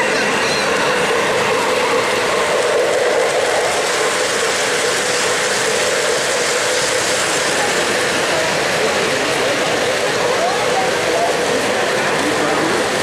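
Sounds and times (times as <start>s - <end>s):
model train wheels clattering: 0.0s - 13.0s.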